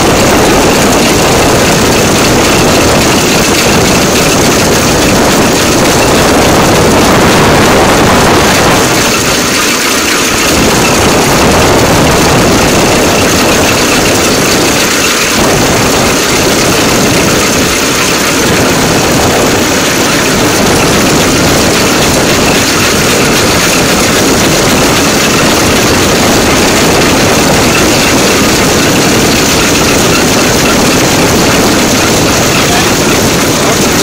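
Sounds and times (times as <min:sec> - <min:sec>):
rail vehicle engine running: 0:00.0 - 0:34.0.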